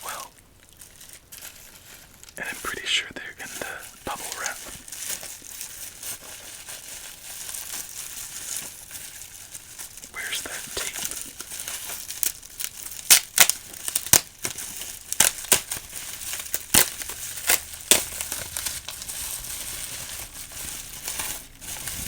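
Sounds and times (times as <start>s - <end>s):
bubble wrap crackling: 0.0s - 22.0s.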